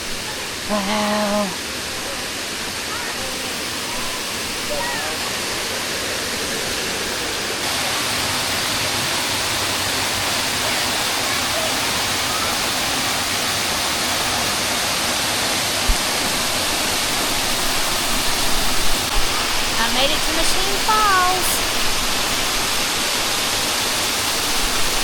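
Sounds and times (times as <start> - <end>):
waterfall roaring: 0.0 - 25.0.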